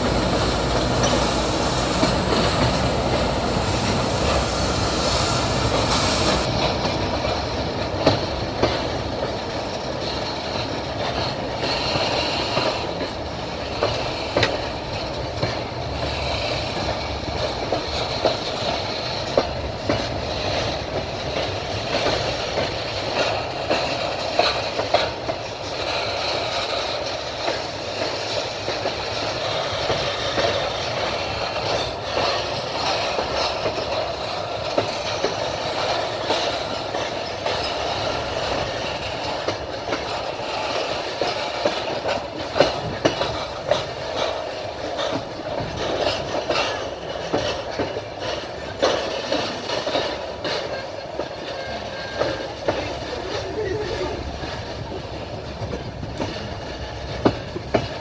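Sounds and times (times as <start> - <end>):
train wheels rumbling on track: 0.0 - 58.0
wheels clacking over rail joints: 0.0 - 58.0.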